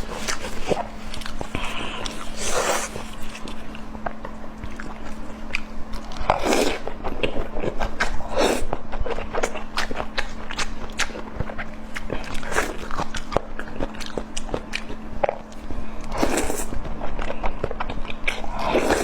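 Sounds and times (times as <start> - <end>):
person biting and chewing food: 0.0 - 19.0
steady low hum: 0.0 - 19.0.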